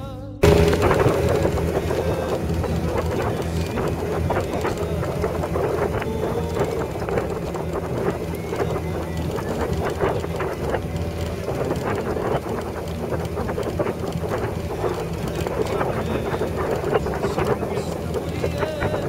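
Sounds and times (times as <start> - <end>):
motor running: 0.4 - 19.0.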